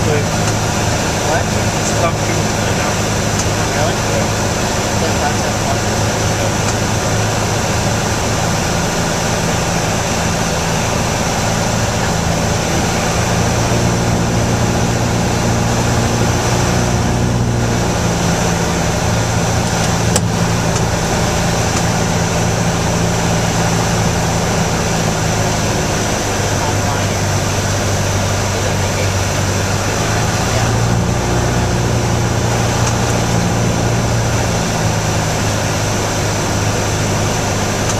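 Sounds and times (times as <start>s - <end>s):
aircraft engine and propeller droning: 0.0s - 37.9s.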